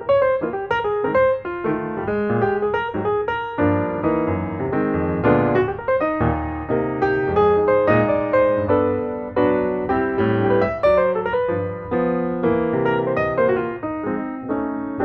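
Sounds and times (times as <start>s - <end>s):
piano music with quick notes: 0.0s - 15.0s.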